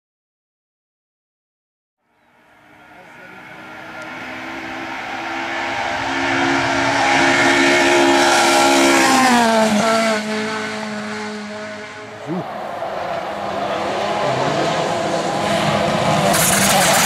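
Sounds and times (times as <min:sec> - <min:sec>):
rally car engine passing at speed: 0:02.3 - 0:17.0.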